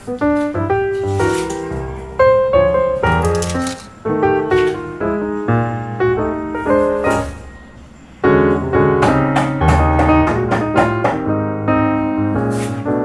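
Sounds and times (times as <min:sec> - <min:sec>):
piano background music: 0:00.0 - 0:13.0.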